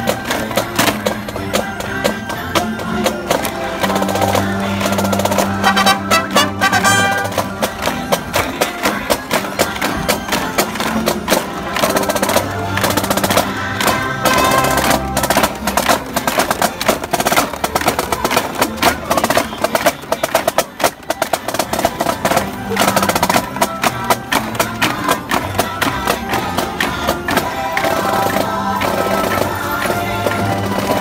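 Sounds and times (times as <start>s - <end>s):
marching snare drums: 0.0s - 31.0s
parade music: 0.0s - 31.0s.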